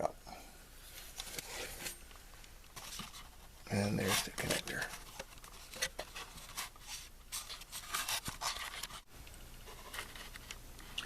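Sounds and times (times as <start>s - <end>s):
rustling handling noises: 0.8s - 11.0s.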